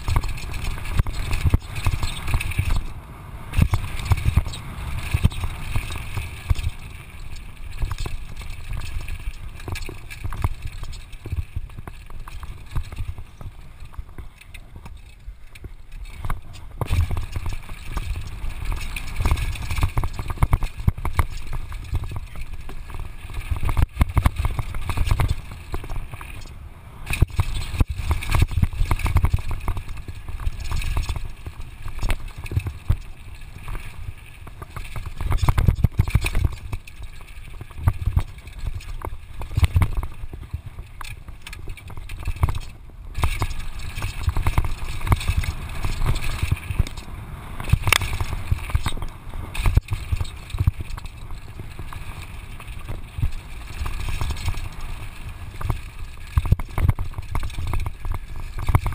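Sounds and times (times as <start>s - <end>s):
bike rattling and knocking: 0.0s - 58.9s
wind rumble on microphone: 0.0s - 58.9s.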